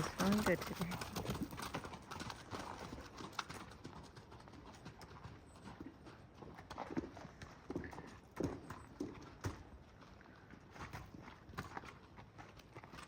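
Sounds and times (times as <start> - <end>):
horse hoofbeats: 0.0 - 13.0.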